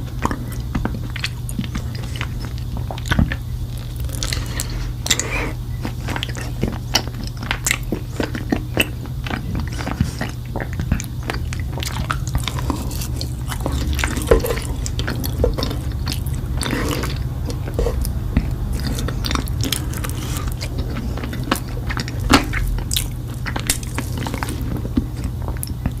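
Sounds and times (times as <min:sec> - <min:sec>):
chewing honeycomb: 0:00.0 - 0:26.0
steady low hum: 0:00.0 - 0:26.0
wax crunching and squishing: 0:00.0 - 0:26.0.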